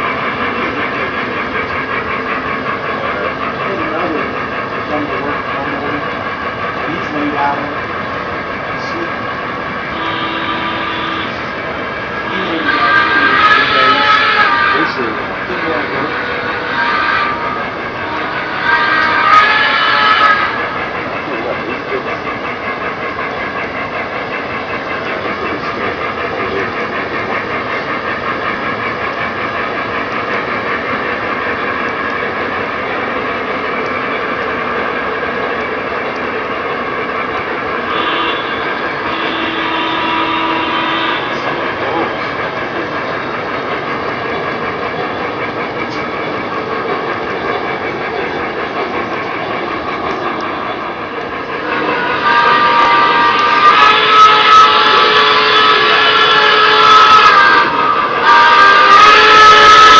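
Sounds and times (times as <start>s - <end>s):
model train wheels rumbling: 0.0s - 59.9s.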